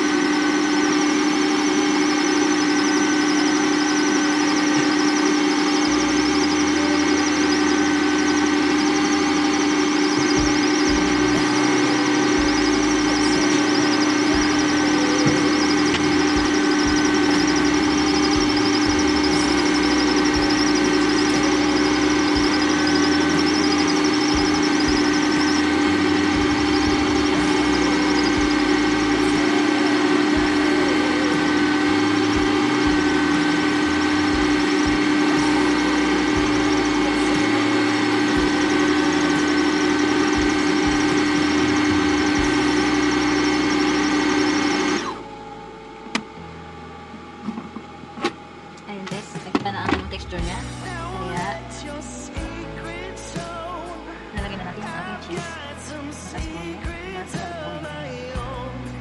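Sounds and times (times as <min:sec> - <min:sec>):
kitchen robot motor humming: 0:00.0 - 0:46.5, 0:47.3 - 0:58.7.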